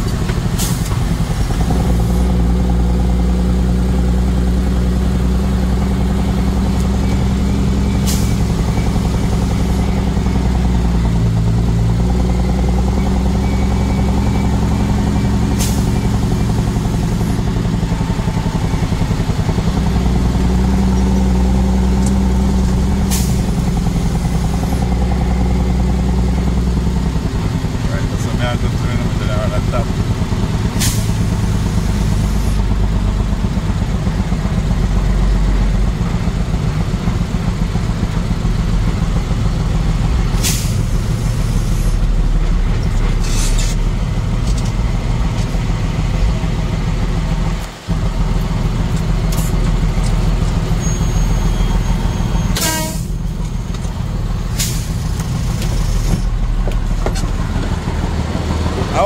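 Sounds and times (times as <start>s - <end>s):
heavy truck engine running: 0.0s - 59.0s.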